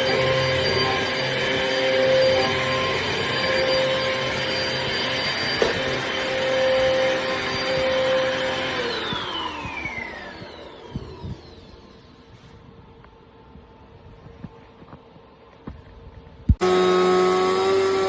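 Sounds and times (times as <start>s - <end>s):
vacuum cleaner running: 0.0s - 13.0s, 16.6s - 18.0s.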